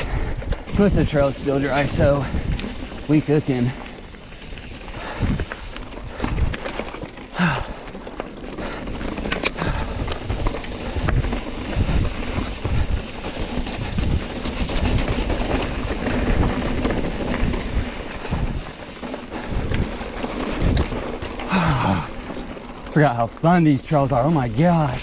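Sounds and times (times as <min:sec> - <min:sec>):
wind buffeting microphone: 0:00.0 - 0:22.6
bike rattling on dirt trail: 0:00.0 - 0:25.0.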